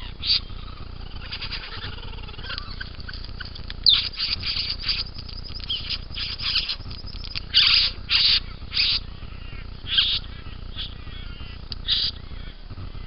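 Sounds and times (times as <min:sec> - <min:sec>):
bird harsh buzzy chattering: 0:00.0 - 0:13.0.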